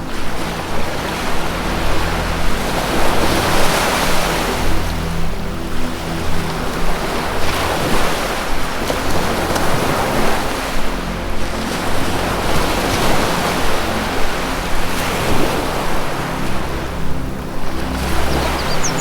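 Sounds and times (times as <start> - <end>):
low music drone: 0.0 - 19.0
ocean surf breaking: 0.0 - 19.0.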